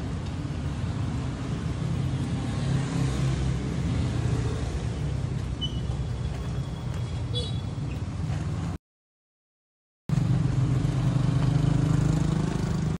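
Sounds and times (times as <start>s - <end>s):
vehicle engines humming: 0.0s - 8.8s, 10.1s - 13.0s.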